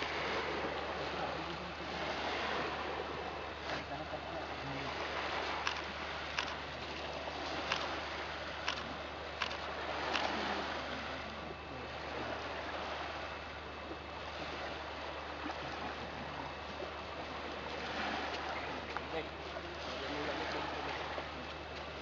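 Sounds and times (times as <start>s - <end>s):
surf rushing on beach: 0.0s - 22.0s.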